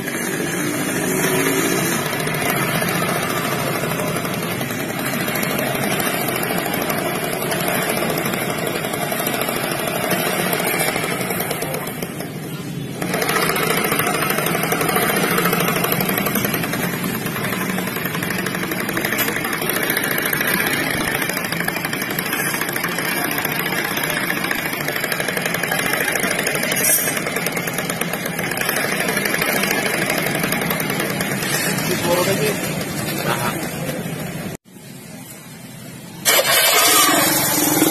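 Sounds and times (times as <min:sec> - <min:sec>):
scooter engine running: 0:00.0 - 0:37.9.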